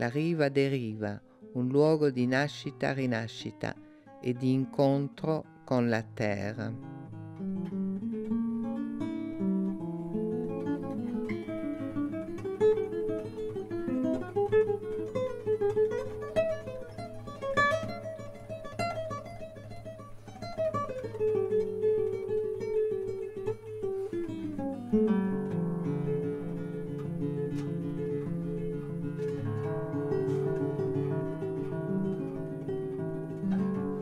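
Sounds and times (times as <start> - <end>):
solo acoustic guitar plucking: 0.0 - 34.0.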